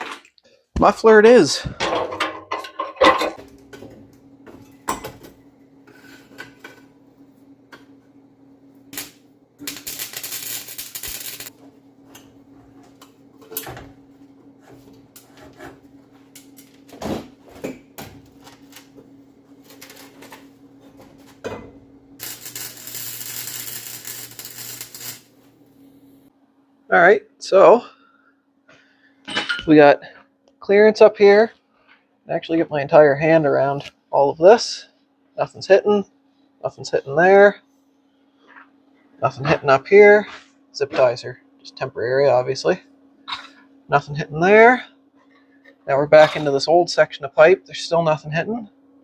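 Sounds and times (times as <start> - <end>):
steady hum: 0.8 - 49.0.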